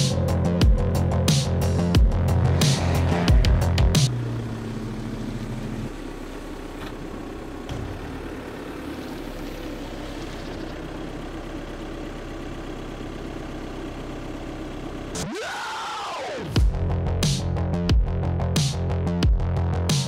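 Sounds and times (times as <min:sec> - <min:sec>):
car engine idling: 0:00.0 - 0:17.7.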